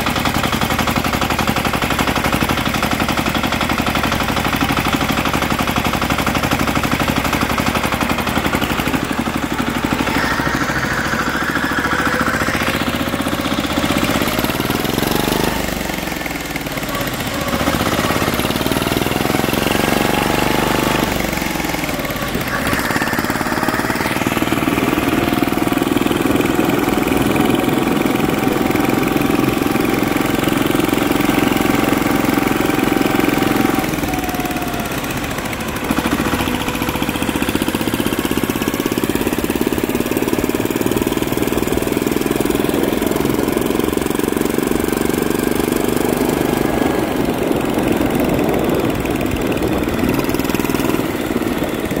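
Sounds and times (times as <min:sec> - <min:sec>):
lawn mower engine running hard: 0:00.0 - 0:52.0.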